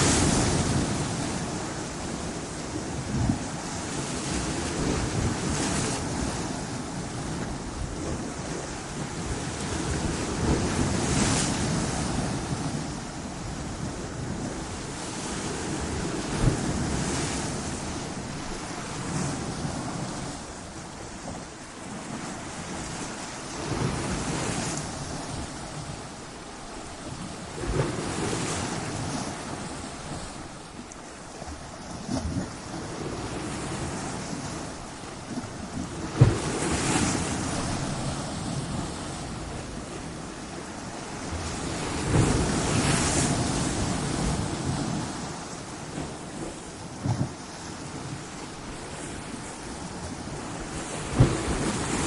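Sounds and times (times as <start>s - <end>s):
ocean waves breaking on rocks: 0.0s - 52.0s.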